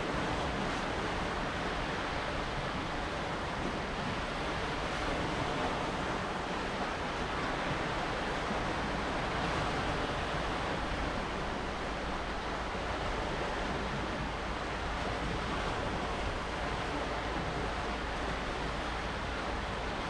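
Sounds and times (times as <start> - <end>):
waves washing onto rocky shore: 0.0 - 20.0
wind: 0.0 - 20.0.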